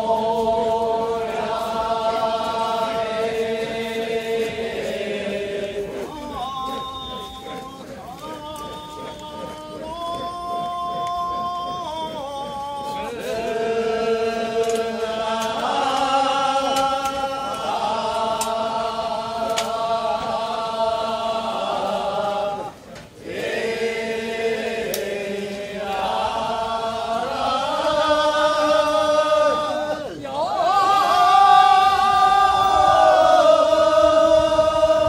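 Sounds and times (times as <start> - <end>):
group chanting in long notes: 0.0 - 35.0.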